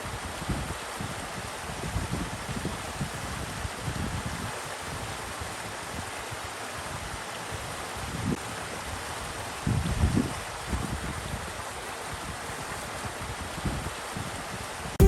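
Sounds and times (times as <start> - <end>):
stream water rushing: 0.0 - 14.7.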